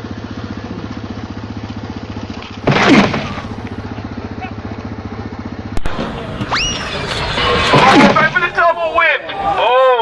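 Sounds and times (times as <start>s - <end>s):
engine running with rapid pulse: 0.0s - 8.8s.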